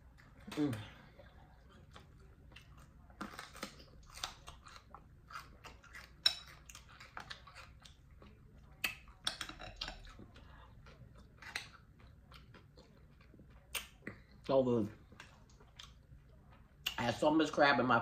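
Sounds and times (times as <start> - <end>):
chewing and biting food: 0.0 - 17.2.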